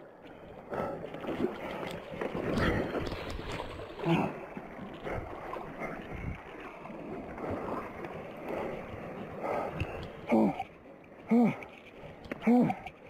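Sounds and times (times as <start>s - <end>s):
creek water rushing and splashing: 0.0s - 13.0s.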